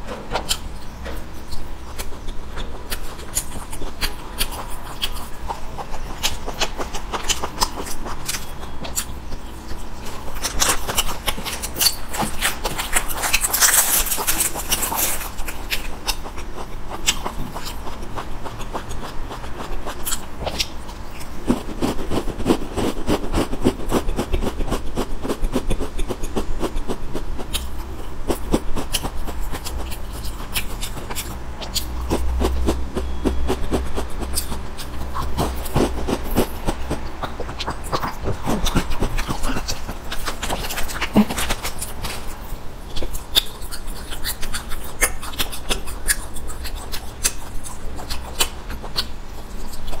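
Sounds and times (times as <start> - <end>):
steady low hum: 0.0 - 50.0
biscuit crunching and chewing: 0.1 - 50.0.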